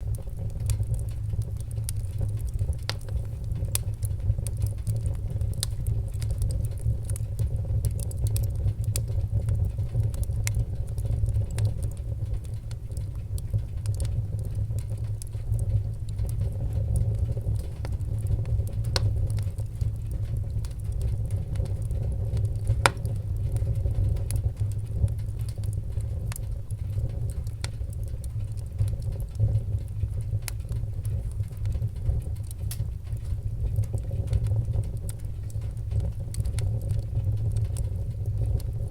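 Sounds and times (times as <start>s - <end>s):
low rumble of flames: 0.0s - 38.9s
wood crackling and popping: 0.0s - 38.9s.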